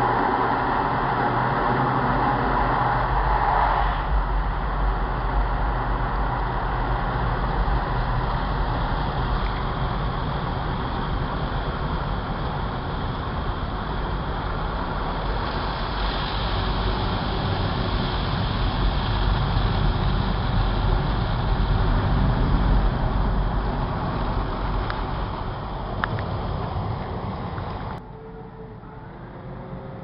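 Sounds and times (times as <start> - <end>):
car wash rushing noise: 0.0 - 28.0
deep rumble: 0.0 - 30.0.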